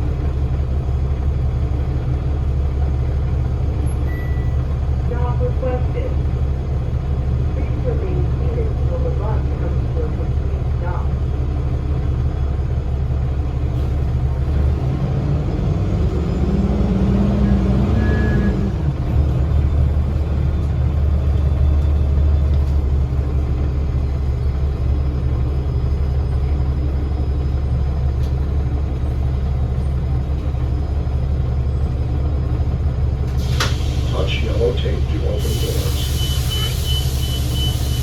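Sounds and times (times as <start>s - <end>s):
bus diesel engine drone: 0.0s - 38.0s.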